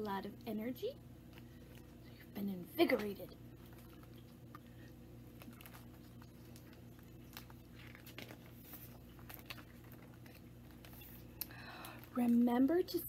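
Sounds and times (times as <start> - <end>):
low room hum: 0.0 - 13.0
book pages turning: 1.3 - 12.9.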